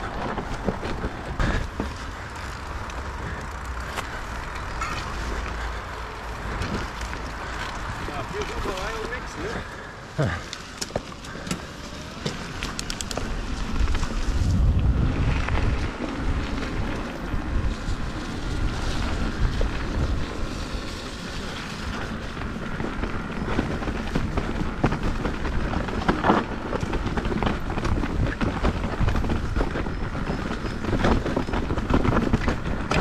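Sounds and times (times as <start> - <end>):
bike clicks and rattles: 0.0 - 33.0
bike tyres rumbling on trail: 0.0 - 33.0.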